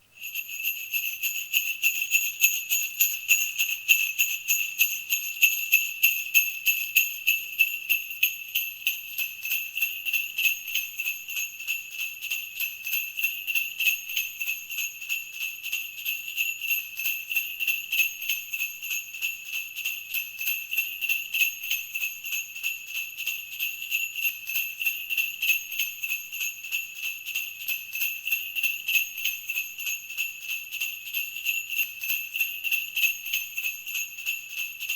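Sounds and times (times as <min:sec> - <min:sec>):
sleigh bells jingling: 0:00.2 - 0:34.9.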